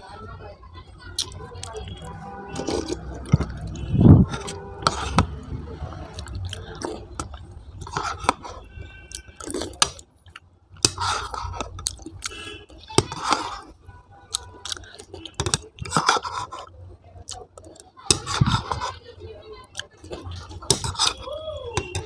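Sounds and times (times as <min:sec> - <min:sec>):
person chewing and mouth sounds: 0:01.2 - 0:19.0, 0:19.6 - 0:22.0.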